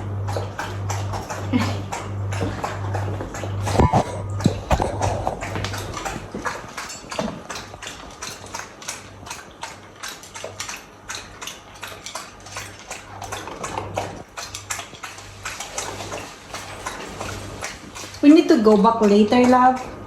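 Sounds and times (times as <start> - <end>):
dog eating from bowl clicks: 0.3 - 20.0.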